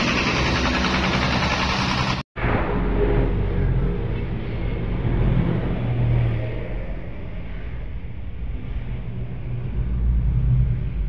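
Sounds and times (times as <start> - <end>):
traffic passing: 0.0 - 11.0
vehicle engine and road rumble: 0.0 - 11.0.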